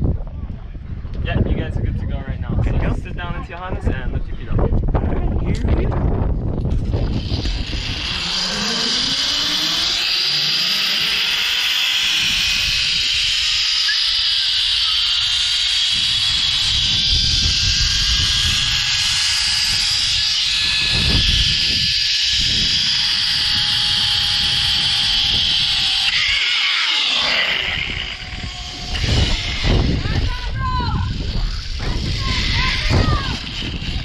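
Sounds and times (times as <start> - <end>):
wind buffeting microphone: 0.0 - 10.2, 15.1 - 26.4, 27.1 - 34.0
zip line trolley whirring: 5.5 - 34.0.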